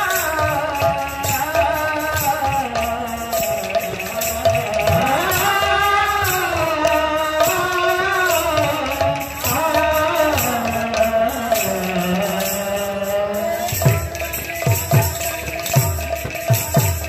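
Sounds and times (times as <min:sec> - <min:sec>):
small hand cymbals jingling: 0:00.0 - 0:17.0.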